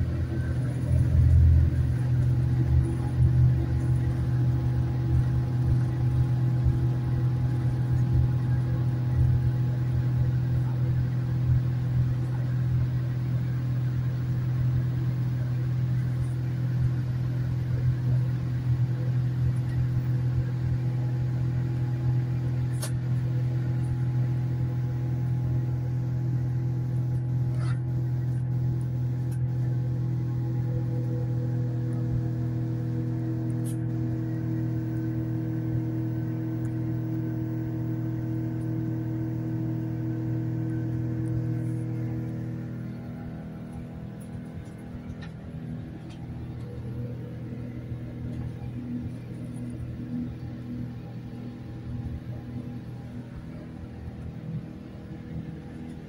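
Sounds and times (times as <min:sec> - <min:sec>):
jet engines droning in cabin: 0:00.0 - 0:56.0.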